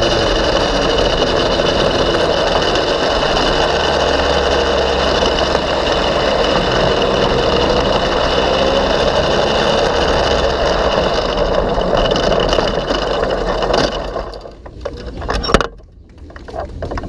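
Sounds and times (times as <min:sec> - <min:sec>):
go-kart engine running hard: 0:00.0 - 0:15.5.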